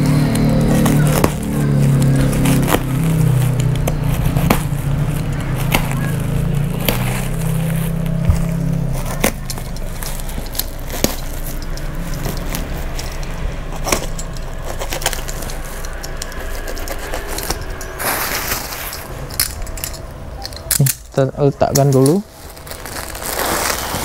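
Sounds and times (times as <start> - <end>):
plastic rustling and crinkling: 0.0 - 24.0.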